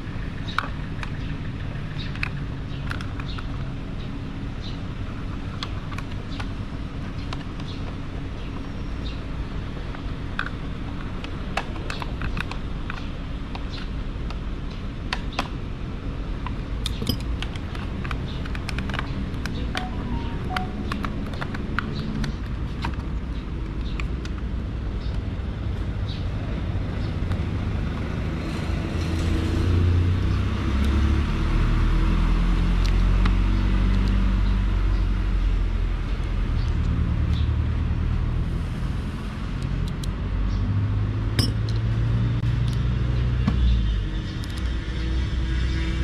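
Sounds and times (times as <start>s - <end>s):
vehicle engine rumbling: 0.0s - 46.0s.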